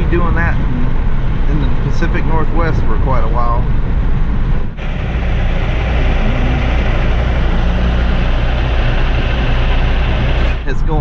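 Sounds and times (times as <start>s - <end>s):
wind and road noise in car: 0.0s - 11.0s.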